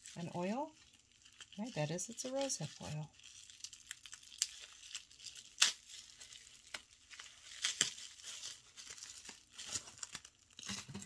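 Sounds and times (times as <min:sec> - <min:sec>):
packaging crinkling and tearing: 0:00.0 - 0:11.0
sharp crackles of wrapping: 0:00.0 - 0:11.0.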